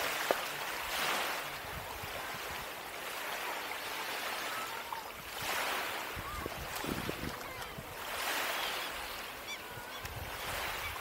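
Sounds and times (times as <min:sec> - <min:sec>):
small waves washing on beach: 0:00.0 - 0:11.0.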